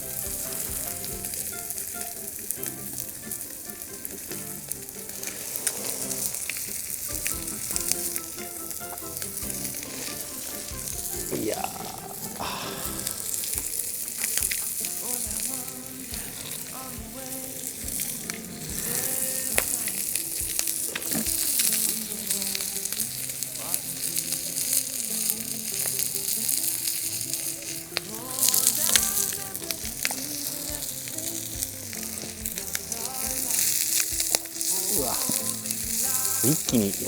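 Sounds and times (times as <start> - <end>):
chicken sizzling on a steel griddle: 0.0 - 37.0
fat spattering and popping: 0.0 - 37.0.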